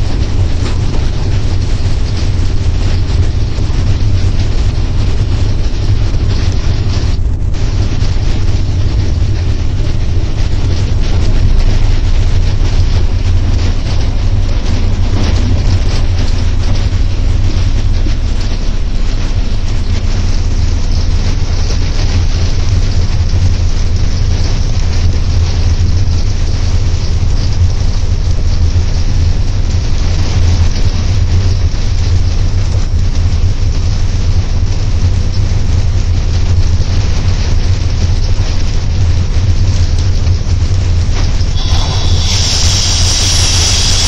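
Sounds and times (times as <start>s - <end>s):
low electric hum: 0.0s - 44.0s
rushing noise of running train: 0.0s - 44.0s.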